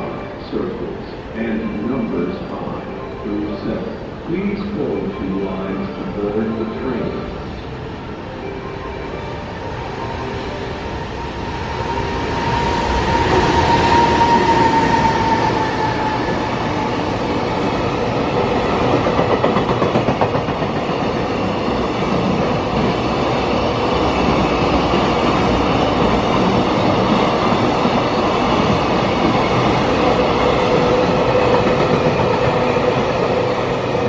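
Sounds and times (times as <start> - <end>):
freight train rolling past: 0.0 - 34.0.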